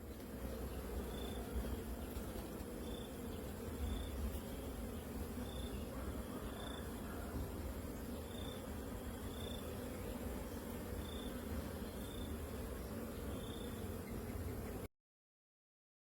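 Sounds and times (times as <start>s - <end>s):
honeybees buzzing: 0.0s - 14.9s.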